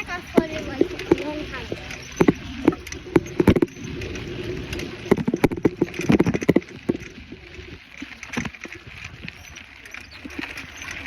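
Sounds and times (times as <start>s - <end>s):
steady rushing noise: 0.0s - 10.5s
bicycle rattling and knocking: 0.0s - 11.0s.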